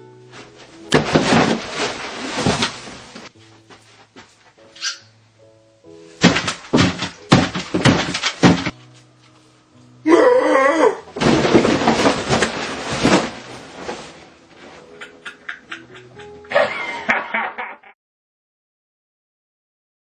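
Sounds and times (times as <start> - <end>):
background music: 0.0 - 17.6.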